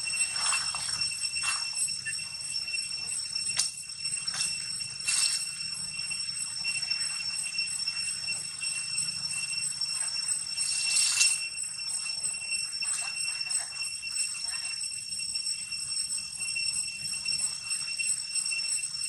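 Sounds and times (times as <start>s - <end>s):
insects ringing in trees: 0.0s - 19.0s.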